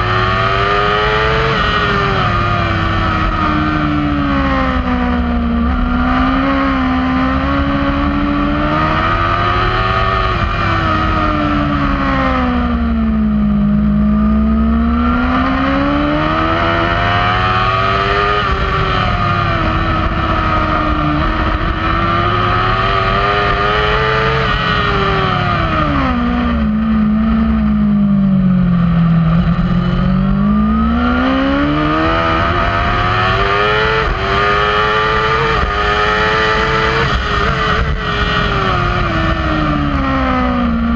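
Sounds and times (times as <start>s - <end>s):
motorcycle engine at racing speed: 0.0s - 40.9s.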